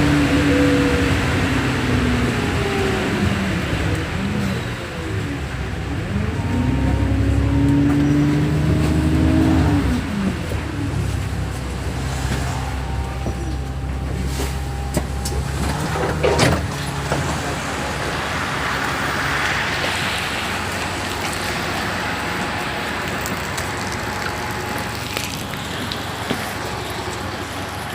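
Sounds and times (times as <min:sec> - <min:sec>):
bus diesel engine running: 0:00.0 - 0:27.9
vehicle passing on wet road: 0:00.0 - 0:27.9.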